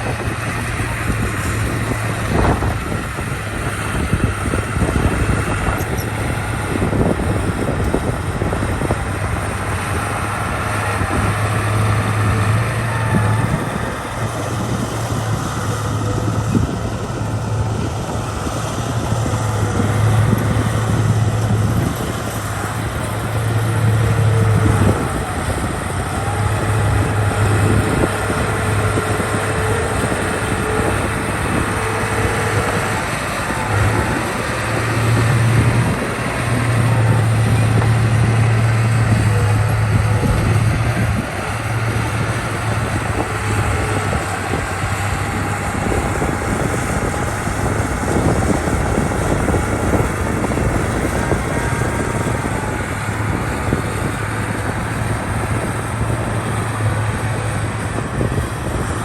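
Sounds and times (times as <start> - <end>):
construction machine diesel engine: 0.0 - 59.0.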